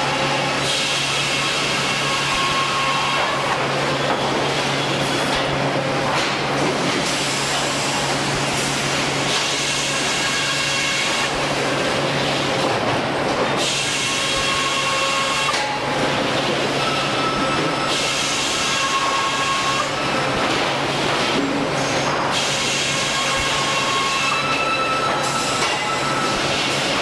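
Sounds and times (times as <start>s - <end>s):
sawmill machinery running: 0.0s - 27.0s.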